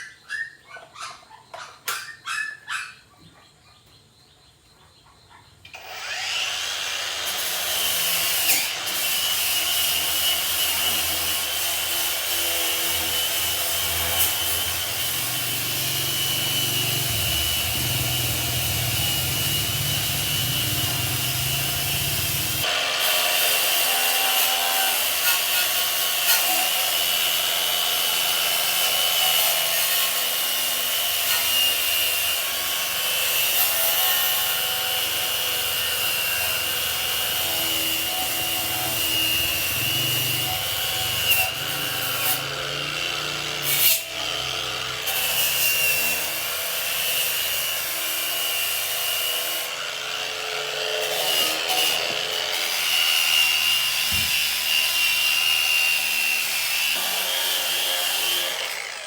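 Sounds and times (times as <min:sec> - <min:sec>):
power tool whining: 0:05.7 - 0:59.0.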